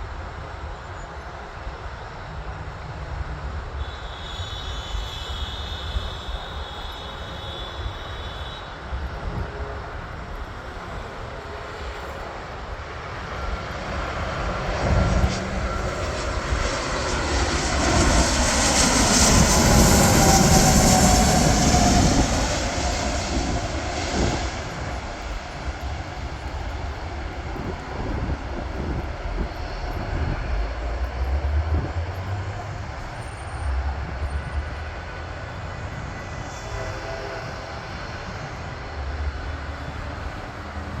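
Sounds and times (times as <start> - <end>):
landing jet aircraft engine: 0.0 - 41.0.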